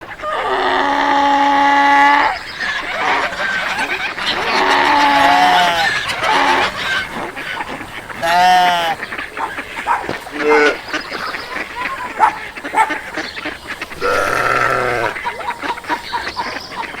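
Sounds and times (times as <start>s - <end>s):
farm animals calling: 0.0s - 17.0s.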